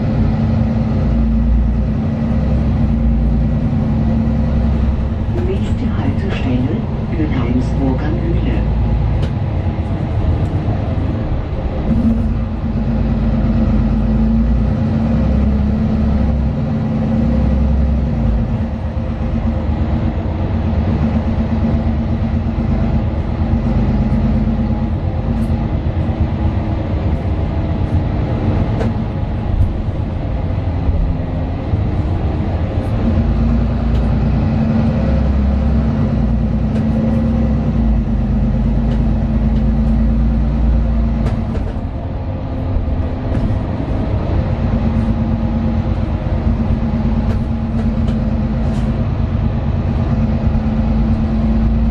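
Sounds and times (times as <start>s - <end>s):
bus diesel engine running: 0.0s - 51.9s.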